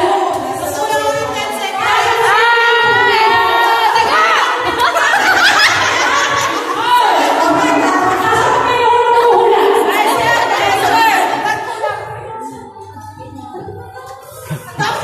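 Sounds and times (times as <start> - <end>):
crowd chatter: 0.0 - 15.0
women singing and calling out: 0.0 - 15.0.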